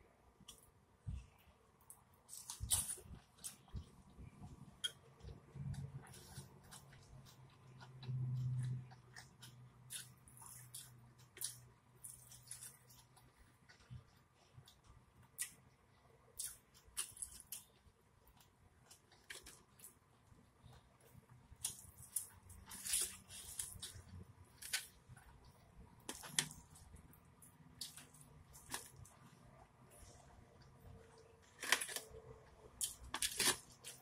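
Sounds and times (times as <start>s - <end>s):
person chewing corn: 1.9s - 34.0s.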